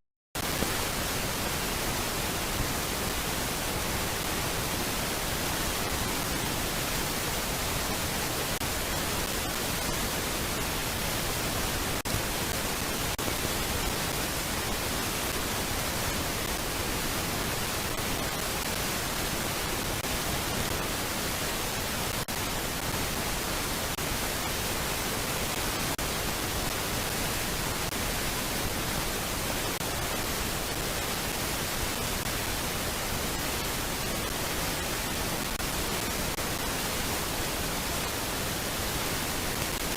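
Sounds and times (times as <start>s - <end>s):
static hiss: 0.4s - 39.9s.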